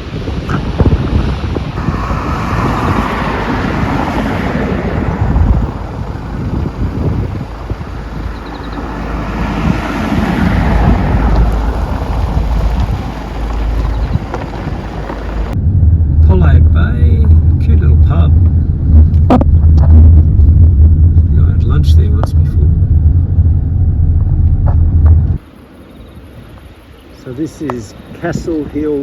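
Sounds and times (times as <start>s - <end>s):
steady low rumble: 0.0s - 26.5s
wind buffeting microphone: 0.0s - 26.9s.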